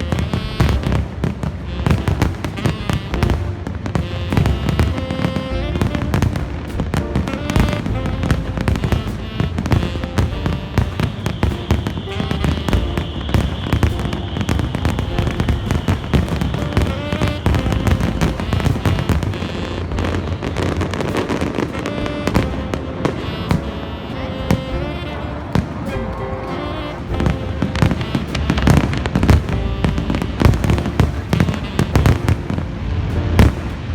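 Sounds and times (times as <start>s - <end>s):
fireworks bursts and crackles: 0.0s - 33.9s
high held tone: 0.0s - 33.9s
loud music: 0.0s - 33.9s.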